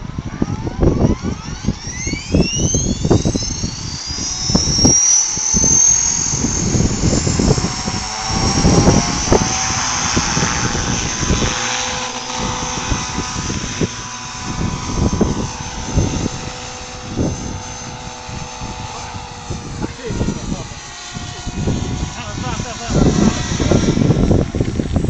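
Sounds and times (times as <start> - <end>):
electric helicopter whine: 0.0 - 25.0
wind buffeting microphone: 0.0 - 25.0.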